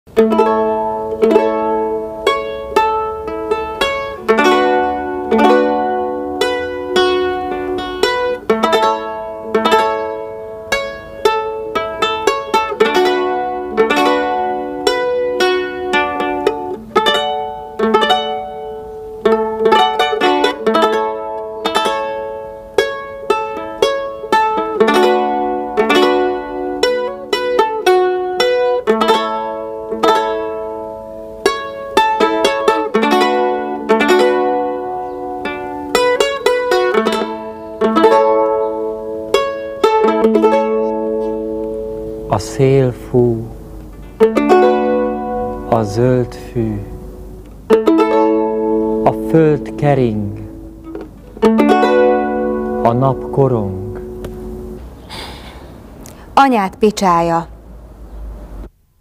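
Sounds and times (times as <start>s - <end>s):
solo lute melody: 0.1s - 57.3s.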